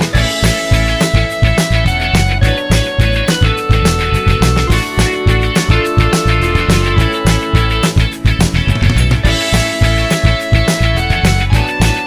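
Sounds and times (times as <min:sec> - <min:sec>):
music with driving beat and guitar: 0:00.0 - 0:12.0.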